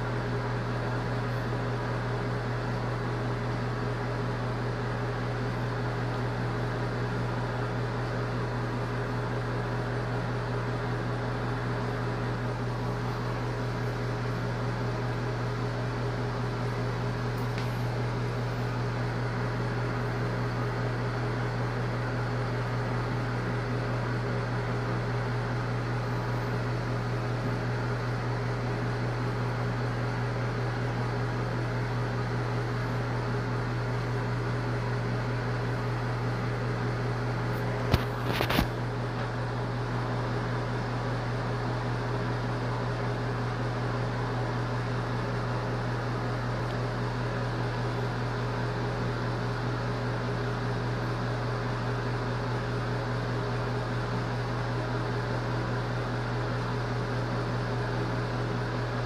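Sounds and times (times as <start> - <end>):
machine hum with hiss: 0.0 - 59.0.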